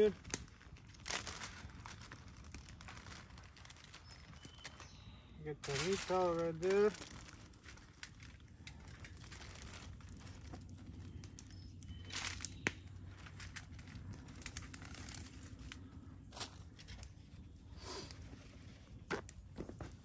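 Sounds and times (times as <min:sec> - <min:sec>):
wrapping crinkling and rustling: 0:00.0 - 0:20.0.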